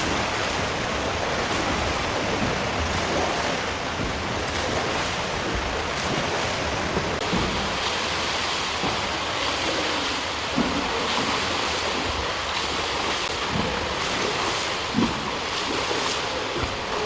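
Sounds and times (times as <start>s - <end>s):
loud water splashes: 0.0s - 17.0s
water churning in a pool: 0.0s - 17.0s.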